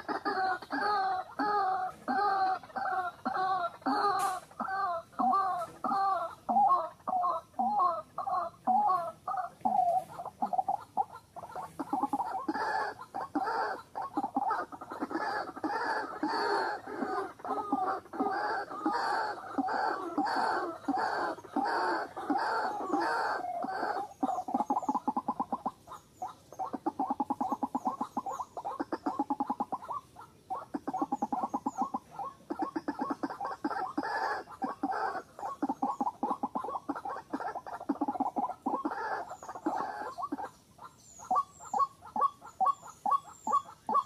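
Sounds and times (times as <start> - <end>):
waterhen croaking calls: 0.0 - 44.0.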